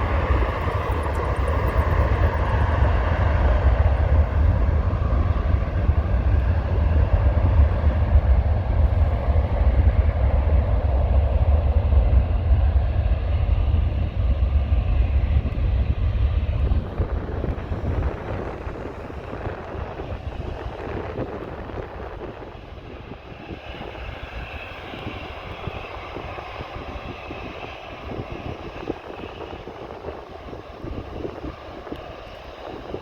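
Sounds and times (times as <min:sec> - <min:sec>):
jet airliner taking off: 0:00.0 - 0:33.0.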